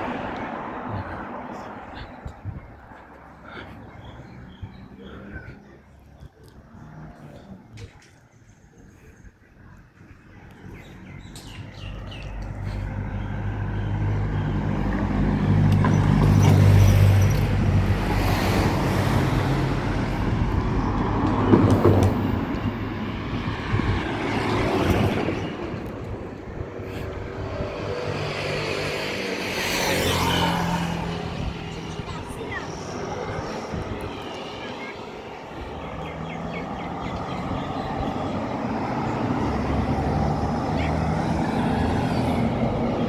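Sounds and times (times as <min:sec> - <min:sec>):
vehicles passing by: 0:00.0 - 0:43.0.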